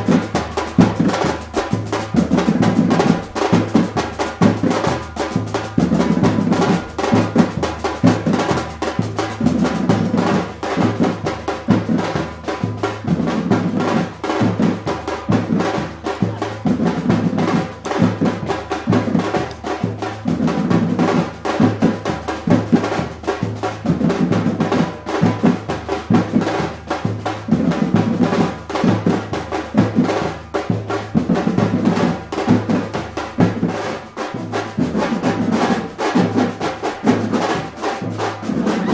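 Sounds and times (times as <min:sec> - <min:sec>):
snare drum strokes: 0:00.0 - 0:38.9.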